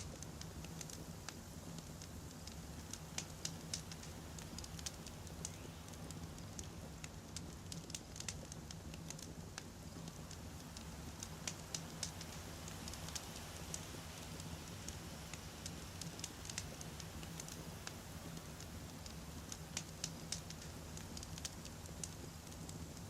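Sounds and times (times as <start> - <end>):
campfire flames rumbling: 0.0 - 23.0
logs crackling and popping: 0.0 - 23.0.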